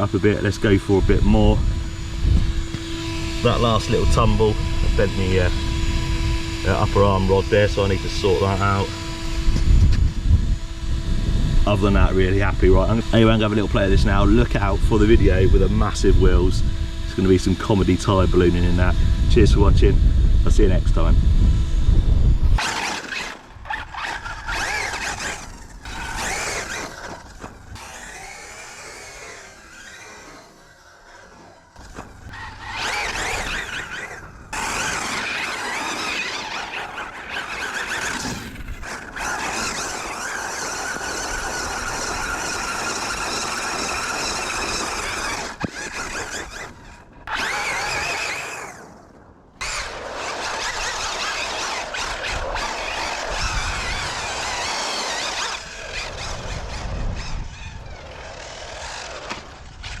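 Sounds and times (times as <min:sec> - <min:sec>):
rc car motor whine: 0:00.0 - 1:00.0
tyre and ground noise: 0:00.0 - 1:00.0.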